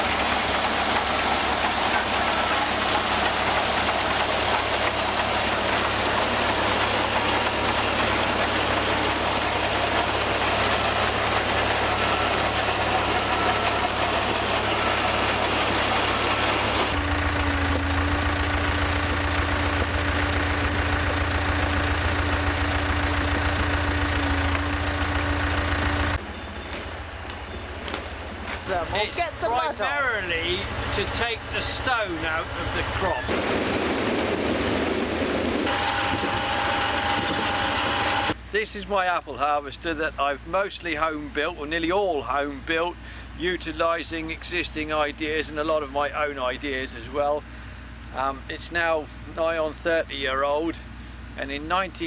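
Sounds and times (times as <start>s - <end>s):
engine drone with hum: 0.0s - 52.0s
engine-driven machinery running: 0.0s - 52.0s.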